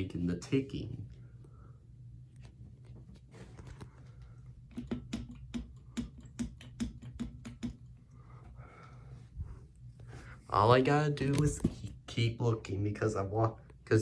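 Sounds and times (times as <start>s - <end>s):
ceiling fan low hum: 0.0s - 14.0s.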